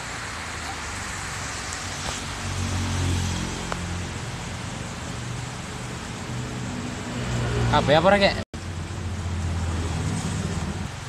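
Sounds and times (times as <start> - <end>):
constant hiss: 0.0 - 11.0.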